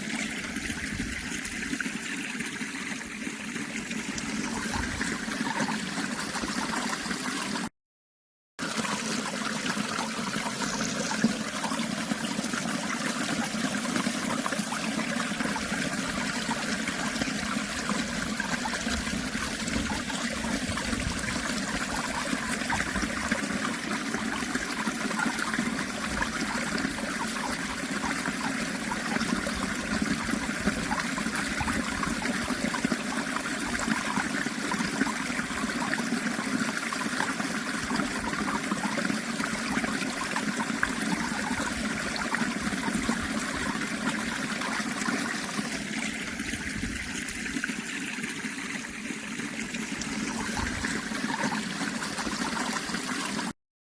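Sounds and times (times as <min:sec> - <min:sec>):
water trickling: 0:00.0 - 0:07.7, 0:08.6 - 0:53.5.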